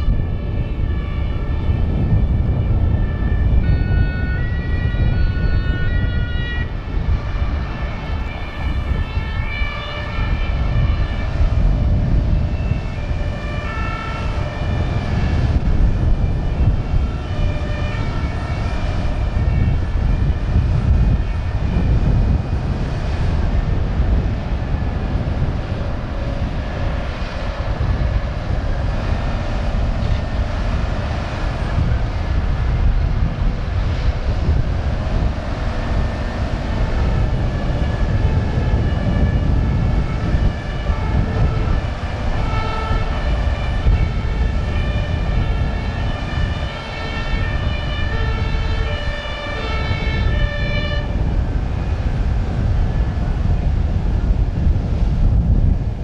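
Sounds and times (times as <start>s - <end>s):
two-tone emergency siren: 0.0s - 55.4s
deep engine rumble: 0.0s - 56.0s.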